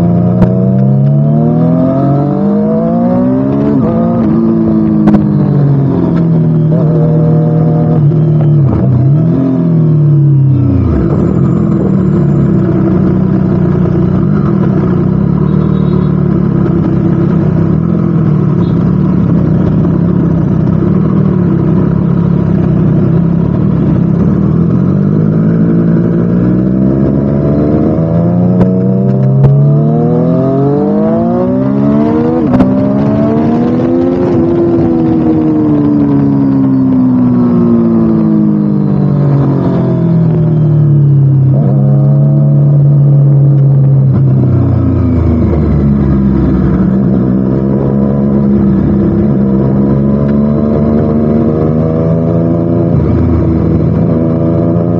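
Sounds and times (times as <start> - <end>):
motorcycle engine running loud: 0.0 - 54.9.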